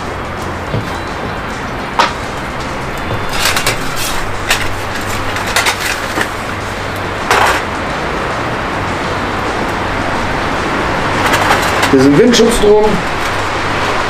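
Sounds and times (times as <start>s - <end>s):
metal windscreen clinking: 0.0s - 8.0s, 8.8s - 14.0s
storm wind: 0.0s - 14.0s.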